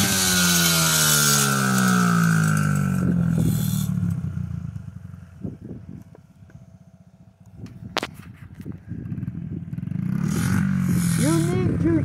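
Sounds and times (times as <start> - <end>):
small dirt bike engine: 0.0 - 12.0.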